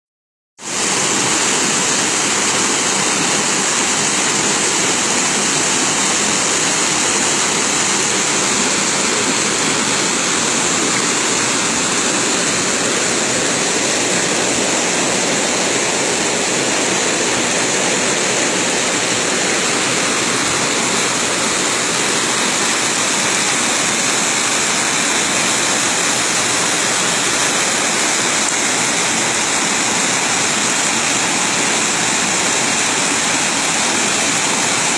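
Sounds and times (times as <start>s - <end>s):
spring water gushing into pool: 0.6s - 34.9s.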